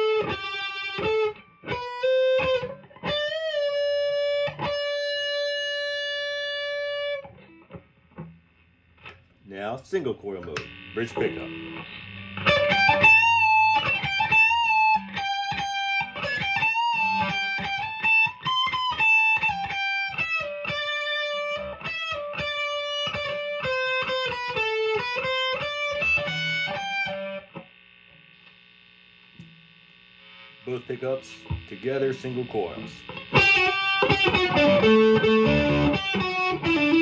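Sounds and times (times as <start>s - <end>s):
electric guitar lead line: 0.0s - 8.4s, 10.1s - 37.0s
guitar pickup hum: 0.0s - 37.0s.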